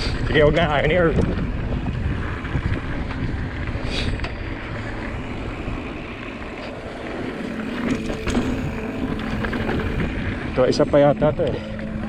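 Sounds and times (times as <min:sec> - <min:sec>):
bike tyres rolling over dirt: 0:00.0 - 0:12.0
wind buffeting microphone: 0:00.0 - 0:12.0.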